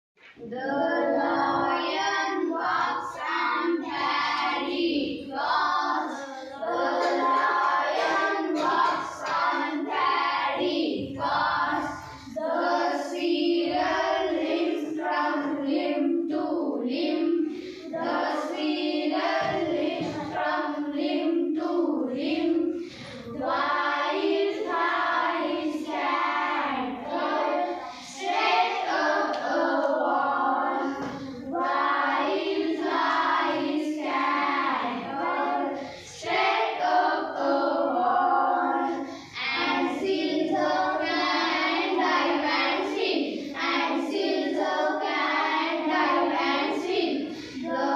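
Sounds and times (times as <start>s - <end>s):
girls singing in unison: 0.2s - 47.9s.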